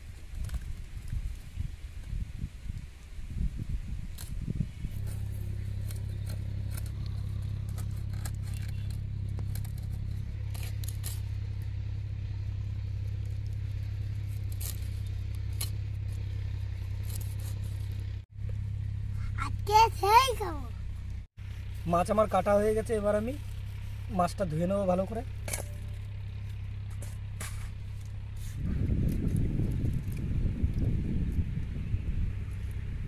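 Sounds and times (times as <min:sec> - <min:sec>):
low hum: 0:00.0 - 0:33.0.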